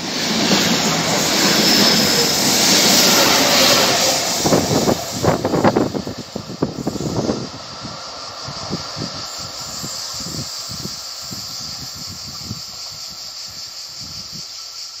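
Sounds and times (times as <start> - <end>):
steady high hiss: 0.0 - 15.0
train rumbling: 0.0 - 15.0.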